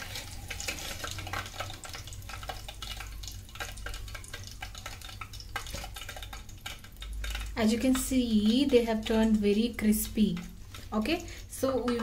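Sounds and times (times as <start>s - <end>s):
hot oil sizzling and popping: 0.0s - 12.0s
metal spoon stirring in oil: 0.0s - 12.0s.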